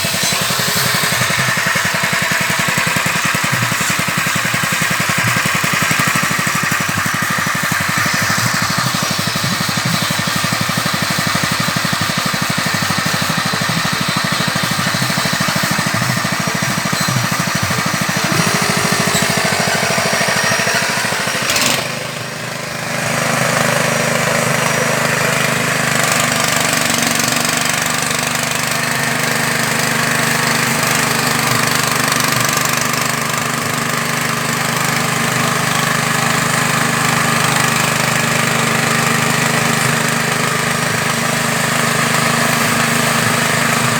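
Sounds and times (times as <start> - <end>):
extruder machine running: 0.0 - 43.9.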